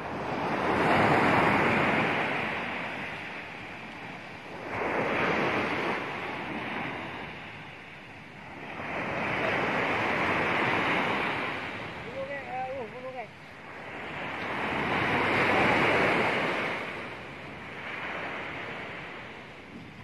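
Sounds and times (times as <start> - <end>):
surf breaking on beach: 0.0 - 7.8, 8.4 - 20.0
wind on microphone: 0.0 - 12.7, 13.6 - 20.0.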